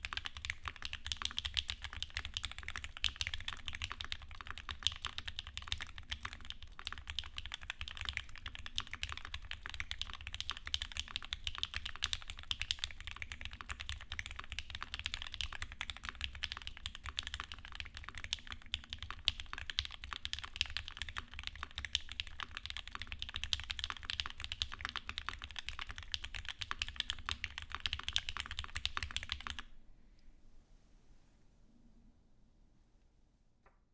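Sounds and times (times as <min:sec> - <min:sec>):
typing on mechanical keyboard: 0:00.0 - 0:29.7.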